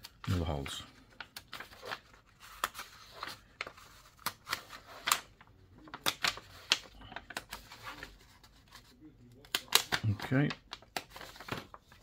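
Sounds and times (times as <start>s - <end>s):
paper rustle: 0.0s - 12.0s.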